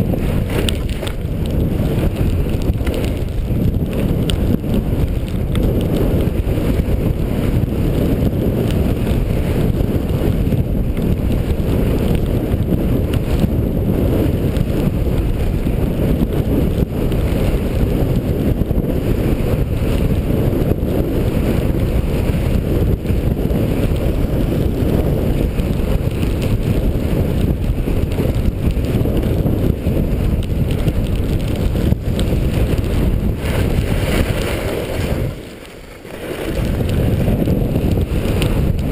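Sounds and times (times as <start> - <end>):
skis sliding over snow: 0.0 - 38.9
wind buffeting microphone: 0.0 - 38.9.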